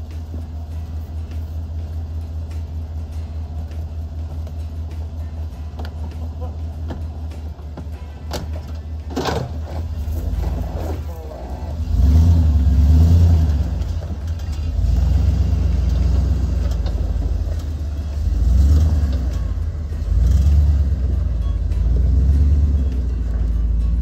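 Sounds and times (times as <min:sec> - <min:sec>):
pickup truck engine revving: 0:00.0 - 0:24.0.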